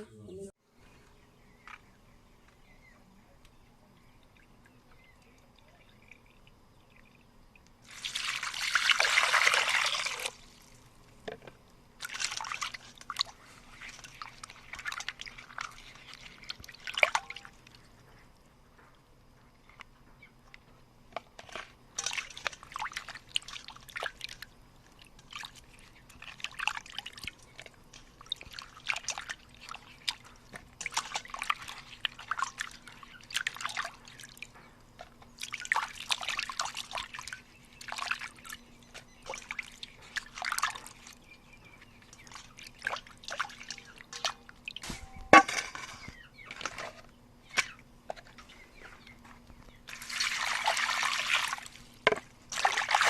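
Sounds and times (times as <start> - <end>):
faint steady hum: 0.0 - 53.0
water splashing and trickling: 3.6 - 18.4, 21.2 - 53.0.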